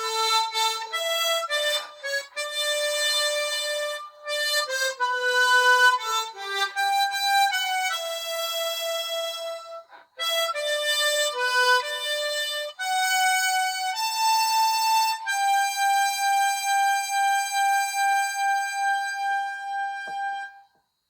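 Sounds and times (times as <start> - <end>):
harmonica melody: 0.0 - 20.7.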